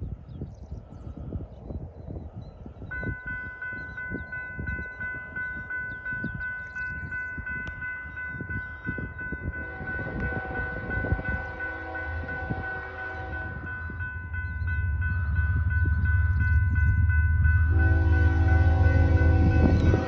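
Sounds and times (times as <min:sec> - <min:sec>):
train approaching: 0:00.8 - 0:20.0
railroad crossing bell ringing: 0:02.6 - 0:20.0.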